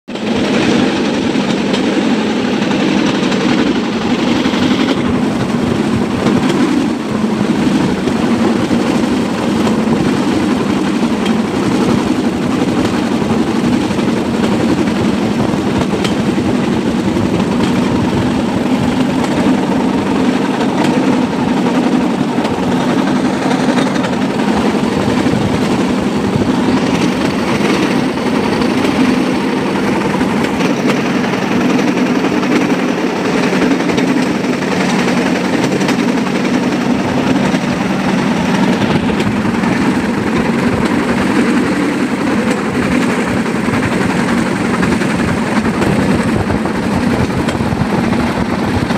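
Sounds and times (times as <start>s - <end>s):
wheels rattling on track: 0.1s - 48.9s.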